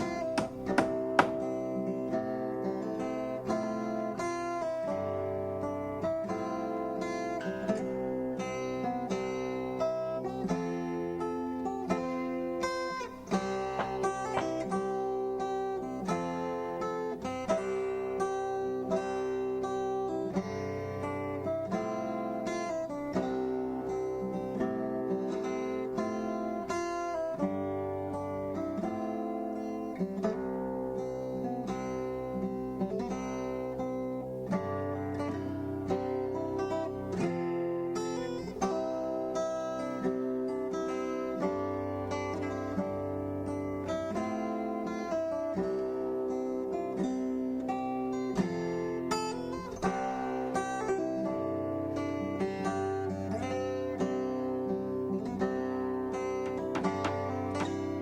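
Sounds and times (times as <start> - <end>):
acoustic guitar music: 0.0 - 58.0.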